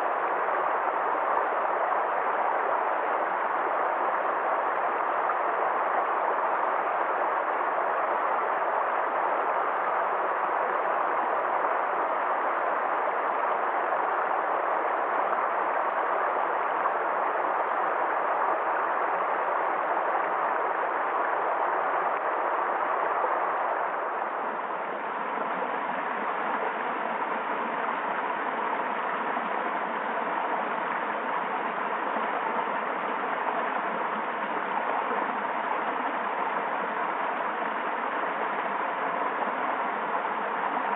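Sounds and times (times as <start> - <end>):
stream water rushing and gurgling: 0.0 - 40.9.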